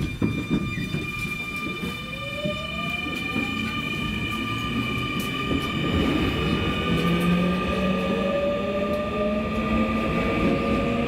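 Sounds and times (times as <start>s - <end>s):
wheels rumbling on track: 0.0s - 11.0s.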